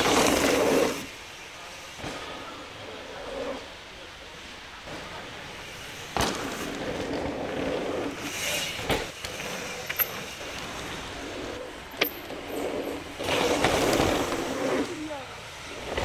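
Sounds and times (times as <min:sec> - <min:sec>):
bike tyres rolling on dirt: 0:00.0 - 0:16.0.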